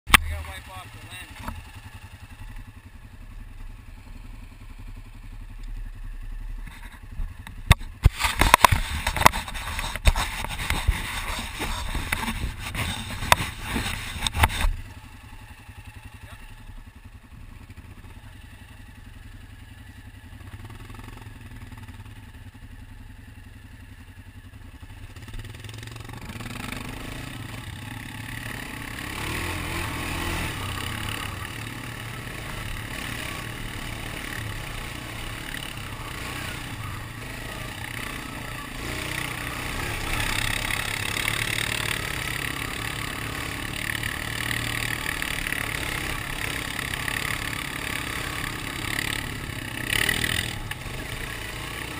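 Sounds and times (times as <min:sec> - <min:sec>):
atv driving on rocky dirt trail: 0:00.1 - 0:51.9
atv engine idling: 0:00.1 - 0:51.9.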